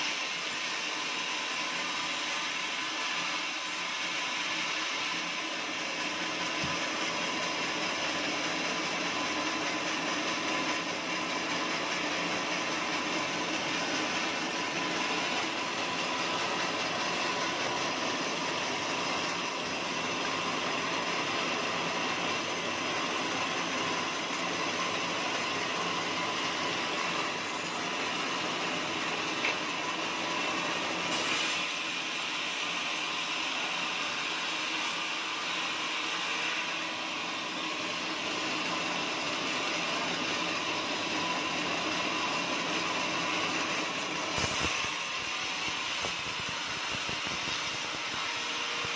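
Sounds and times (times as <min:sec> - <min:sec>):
bandsaw mill sawing wood: 0:00.0 - 0:48.9.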